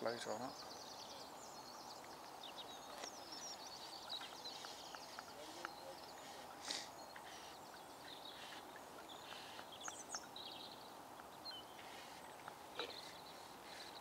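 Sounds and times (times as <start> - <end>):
small birds chirping and trilling: 0.0 - 14.0
steady outdoor hiss: 0.0 - 14.0.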